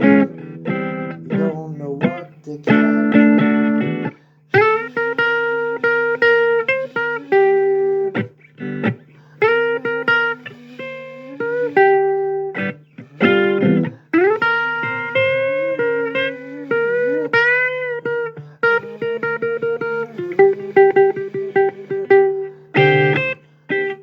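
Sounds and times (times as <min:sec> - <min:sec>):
blues guitar playing: 0:00.0 - 0:24.0.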